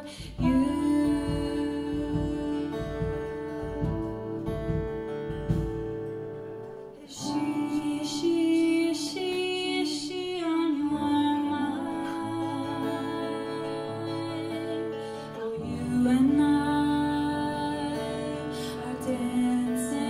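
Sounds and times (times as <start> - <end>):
woman singing: 0.0 - 6.0, 6.8 - 20.0
acoustic guitar: 0.0 - 20.0.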